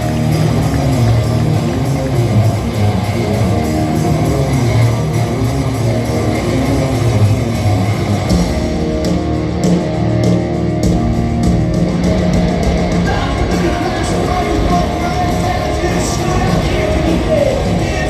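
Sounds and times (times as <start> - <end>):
bass guitar: 0.0 - 18.0
drums: 0.0 - 18.0
electric guitars: 0.0 - 18.0.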